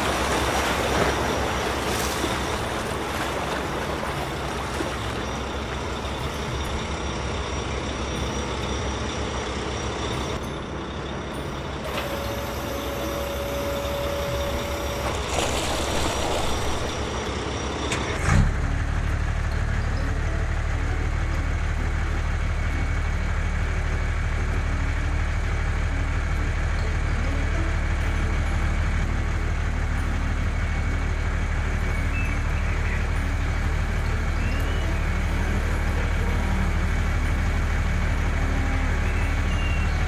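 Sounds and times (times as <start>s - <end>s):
deep engine hum: 0.0s - 40.0s
heavy machinery engines running: 0.0s - 40.0s
steady whine: 0.0s - 40.0s.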